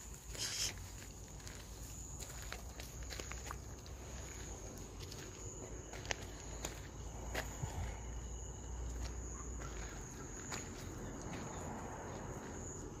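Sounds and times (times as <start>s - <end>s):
insects calling high-pitched: 0.0s - 13.0s.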